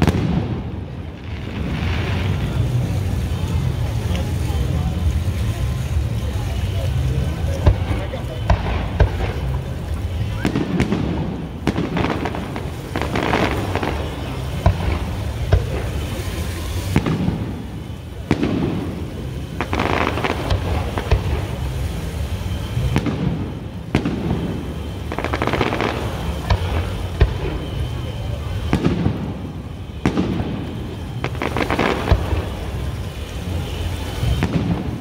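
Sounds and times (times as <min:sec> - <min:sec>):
fireworks booming: 0:00.0 - 0:35.0.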